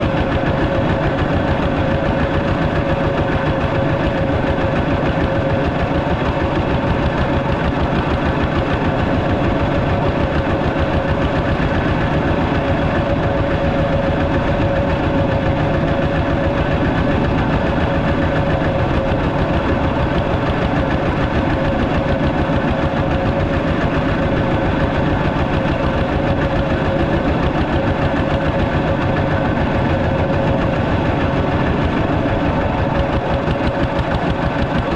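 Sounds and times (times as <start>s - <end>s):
tractor engine chugging: 0.0s - 34.9s.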